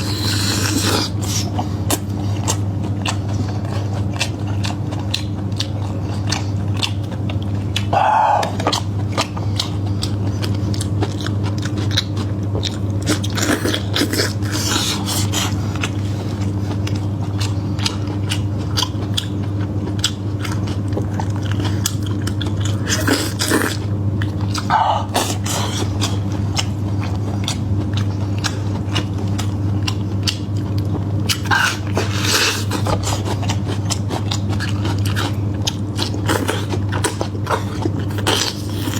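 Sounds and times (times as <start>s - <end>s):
low steady hum: 0.0s - 38.9s
person chewing and biting: 0.0s - 38.9s.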